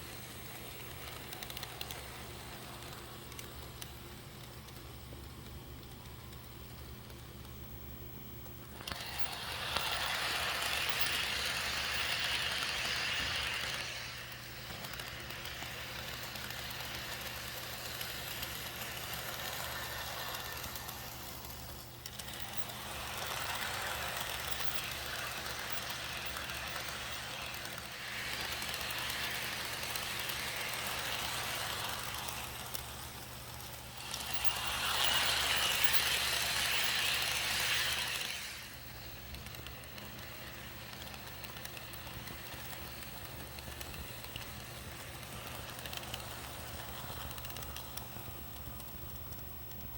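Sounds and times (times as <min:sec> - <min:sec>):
model train wheels rattling: 0:00.0 - 0:07.8, 0:08.4 - 0:49.9.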